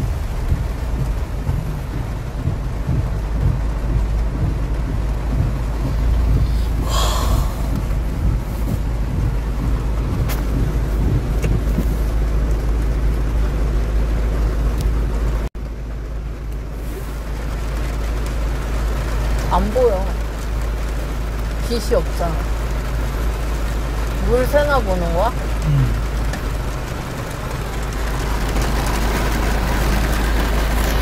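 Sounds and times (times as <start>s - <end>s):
car rumbling on wet road: 0.0s - 31.0s
heavy rain on a car roof: 0.0s - 31.0s.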